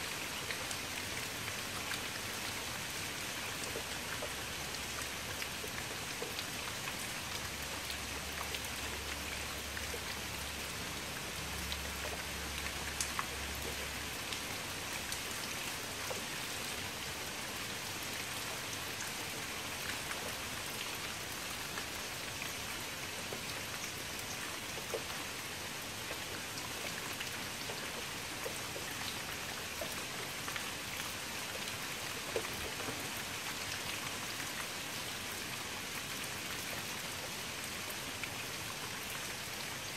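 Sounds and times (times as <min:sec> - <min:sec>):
rain falling on standing water: 0:00.0 - 0:39.9.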